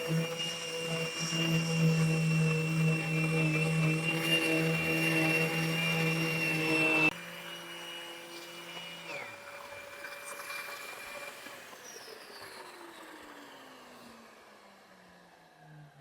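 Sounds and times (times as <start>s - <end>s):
electric motor winding down: 0.0s - 16.0s.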